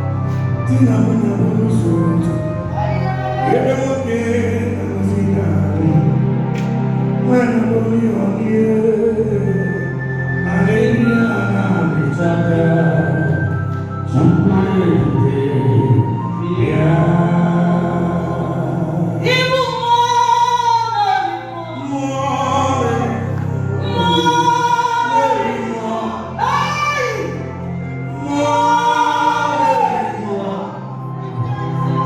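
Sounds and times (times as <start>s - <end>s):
person singing gospel: 0.0s - 32.0s
sustained low accompaniment: 0.0s - 32.0s.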